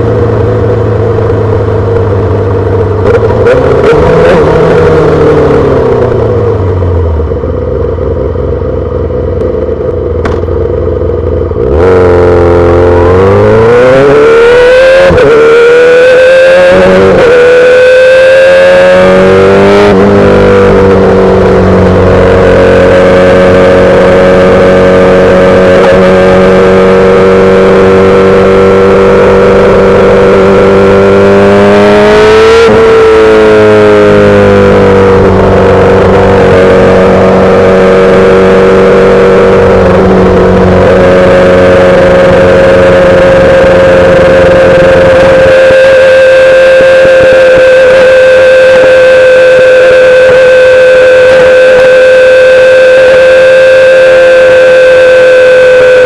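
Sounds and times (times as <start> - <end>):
motorcycle engine running loud: 0.0 - 56.0.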